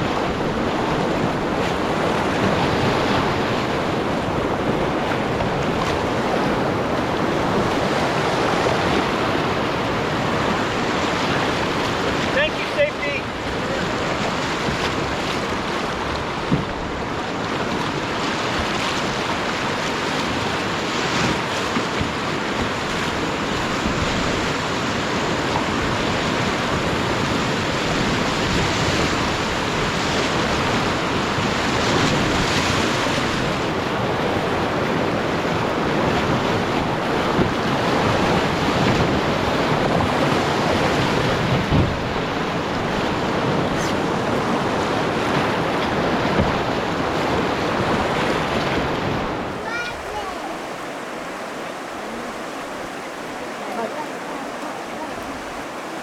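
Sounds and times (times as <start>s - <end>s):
river rapids rushing: 0.0s - 56.0s
wind on microphone: 0.0s - 56.0s.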